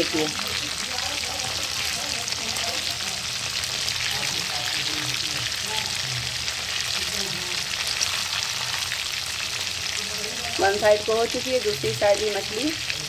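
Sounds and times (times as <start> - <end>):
fish sizzling in hot oil: 0.0 - 13.0
spatula turning food in oil: 0.0 - 13.0.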